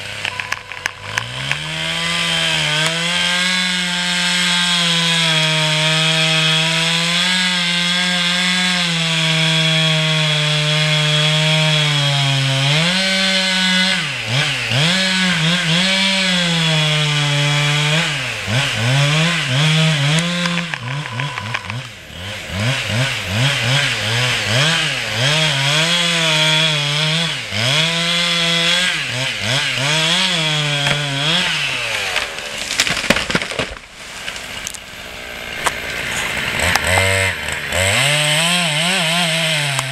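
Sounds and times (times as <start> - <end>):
chainsaw cutting wood: 0.0 - 39.9
wood cracking: 0.0 - 39.9.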